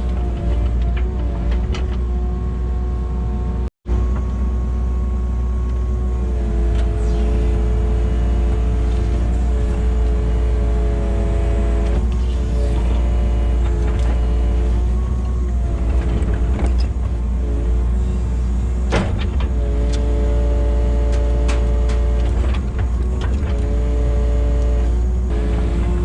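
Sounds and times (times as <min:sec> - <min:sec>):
excavator diesel engine running: 0:03.9 - 0:26.0.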